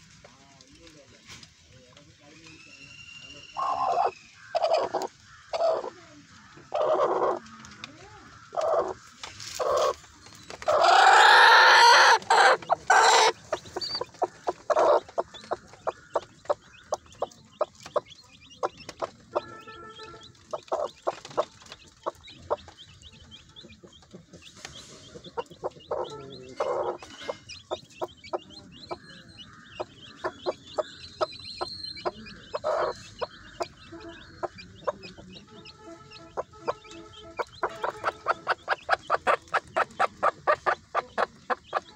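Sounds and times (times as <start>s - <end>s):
hen clucking: 3.5s - 41.9s.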